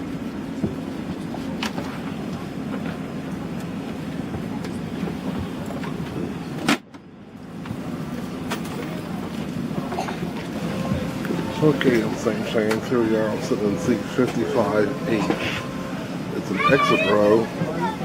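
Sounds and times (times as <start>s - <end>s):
aircraft cabin hum: 0.0s - 18.0s.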